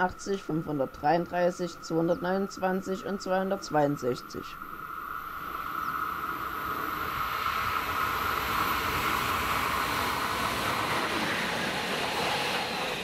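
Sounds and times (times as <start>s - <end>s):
electric locomotives running: 0.0s - 13.0s
steady high whine: 0.0s - 13.0s.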